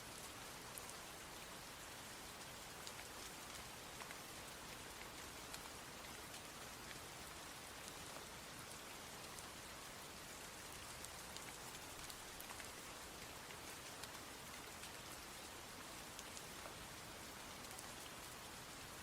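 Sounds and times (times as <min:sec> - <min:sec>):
rain hiss: 0:00.0 - 0:19.0.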